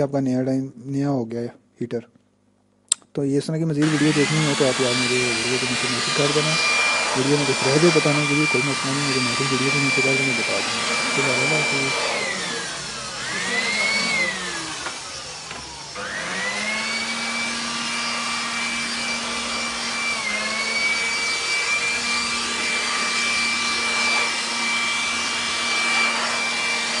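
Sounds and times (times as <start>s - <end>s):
electric air blower whine: 3.8s - 27.0s.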